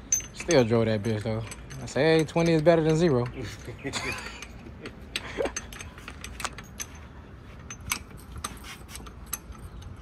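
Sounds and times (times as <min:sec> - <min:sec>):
metallic clicks and clinks: 0:00.0 - 0:10.0.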